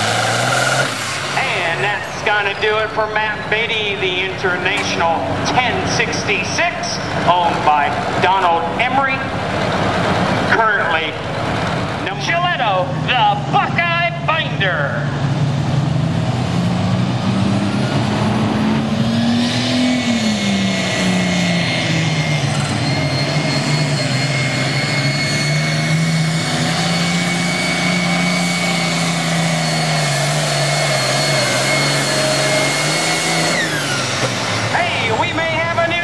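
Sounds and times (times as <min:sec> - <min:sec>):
diesel tractor engine roaring: 0:00.0 - 0:36.0.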